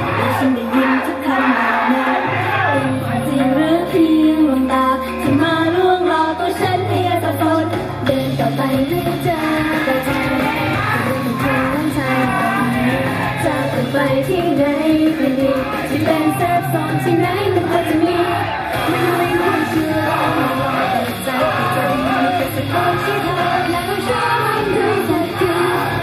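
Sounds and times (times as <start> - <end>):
high female voices singing: 0.0 - 26.0
sped-up pop backing track: 3.2 - 26.0.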